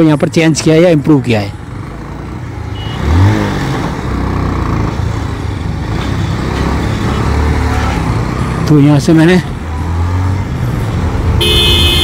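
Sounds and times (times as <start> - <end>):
road noise: 0.0 - 12.0
motorcycle engine: 1.4 - 12.0.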